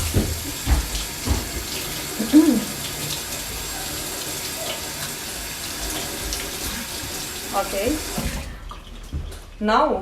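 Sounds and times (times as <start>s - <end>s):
water running from a tap: 0.0s - 9.9s.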